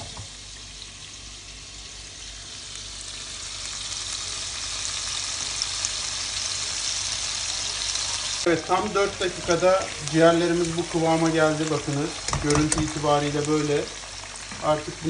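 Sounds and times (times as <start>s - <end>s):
liver sizzling in oil: 0.0s - 15.0s.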